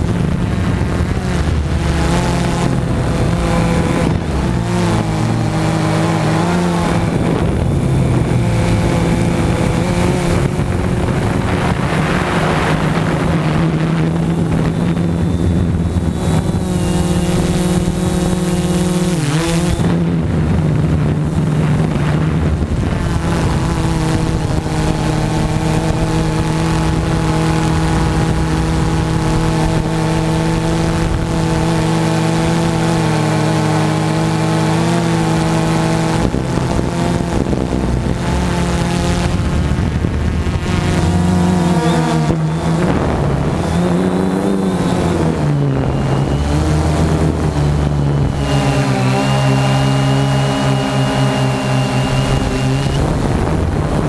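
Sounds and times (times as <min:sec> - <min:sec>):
model aircraft propeller drone: 0:00.0 - 0:54.0.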